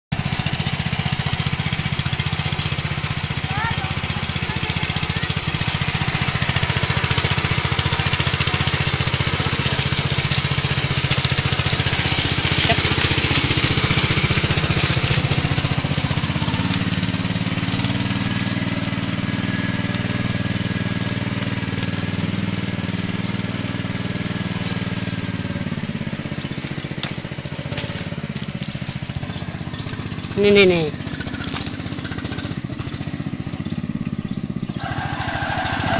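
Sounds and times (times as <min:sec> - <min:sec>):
small engine running: 0:00.1 - 0:35.9.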